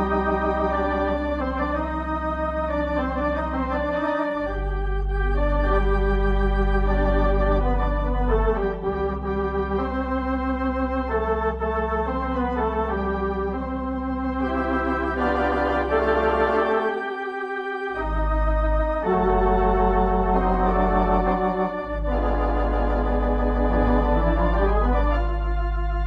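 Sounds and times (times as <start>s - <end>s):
deep organ pedal bass: 0.0s - 26.0s
organ chords with vibrato: 0.0s - 26.0s.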